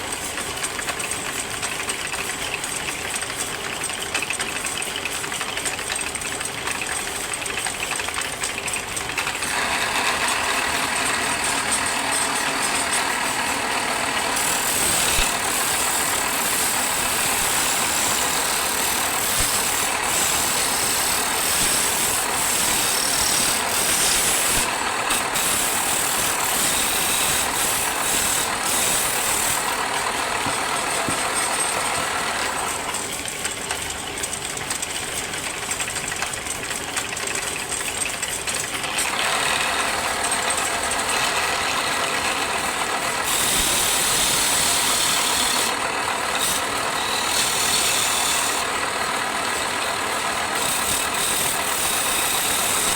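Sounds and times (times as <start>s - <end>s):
wood lathe running: 0.0s - 34.4s, 35.4s - 52.9s.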